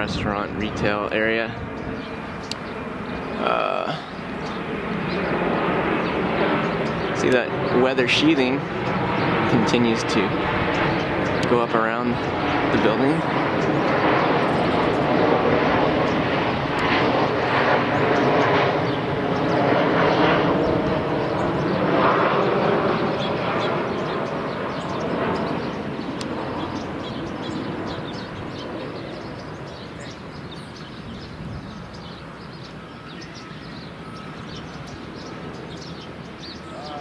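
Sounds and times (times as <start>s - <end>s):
airplane passing overhead: 0.0s - 37.0s.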